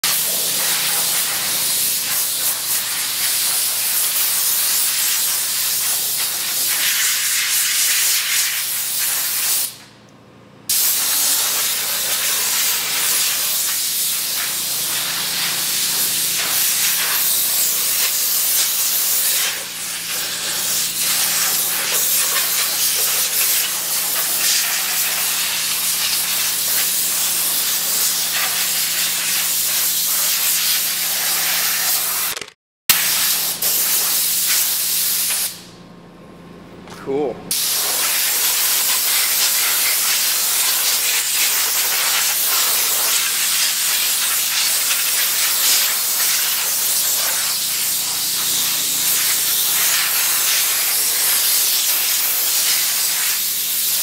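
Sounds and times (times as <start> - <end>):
water jet spraying: 0.0 - 9.4, 10.7 - 32.3, 37.5 - 54.0.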